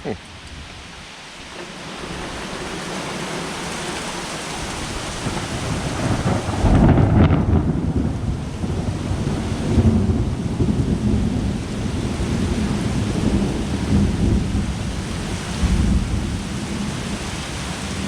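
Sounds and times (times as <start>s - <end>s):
heavy rain: 0.0s - 18.0s
rolling thunder: 1.7s - 18.0s.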